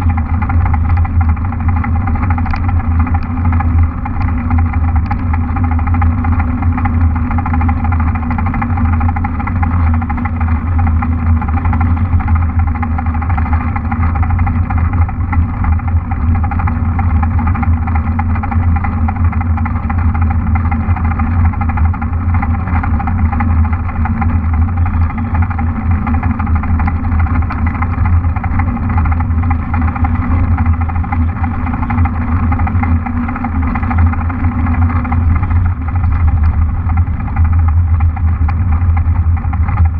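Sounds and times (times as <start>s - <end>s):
bike tyres rolling on asphalt: 0.0s - 39.9s.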